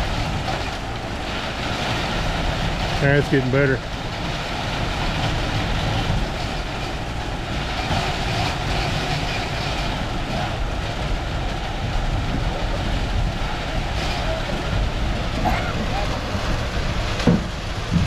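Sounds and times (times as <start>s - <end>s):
concrete pump rumbling: 0.0s - 18.0s.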